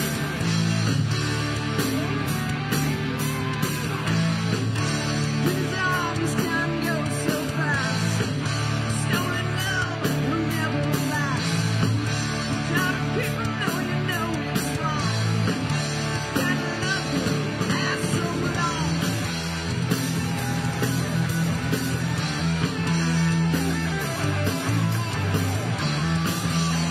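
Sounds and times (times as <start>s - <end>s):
live rock band: 0.0s - 26.9s.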